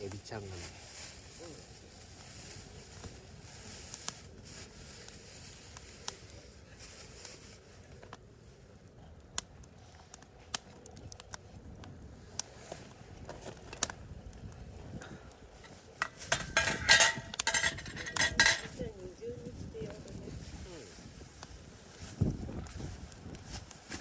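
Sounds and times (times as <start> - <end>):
campfire crackles and pops: 0.0 - 24.0
fire low steady hiss: 0.0 - 24.0.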